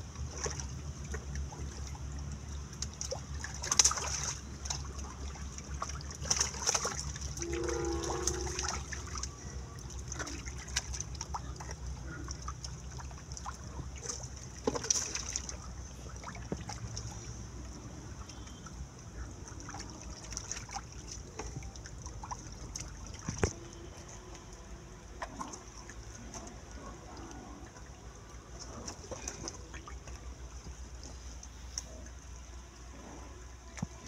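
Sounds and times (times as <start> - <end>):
muddy water splashing: 0.0 - 34.0.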